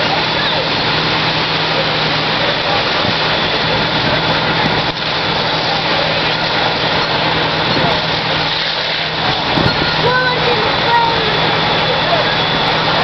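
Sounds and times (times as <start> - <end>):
fire engine engines droning: 0.0 - 13.0.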